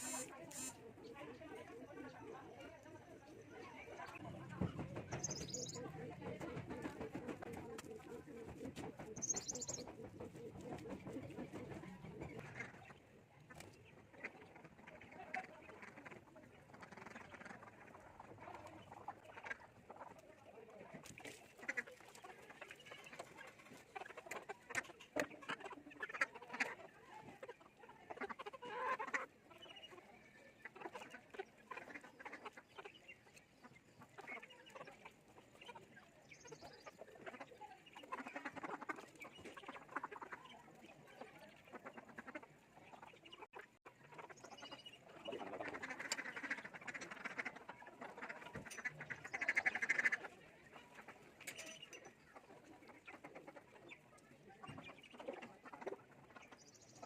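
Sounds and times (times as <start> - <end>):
ducks quacking: 0.0 - 2.8, 3.6 - 57.0.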